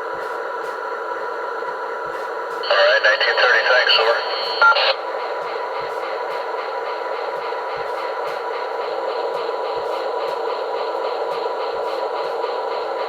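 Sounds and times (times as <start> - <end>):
diesel locomotive sound from small speaker: 0.0 - 13.0.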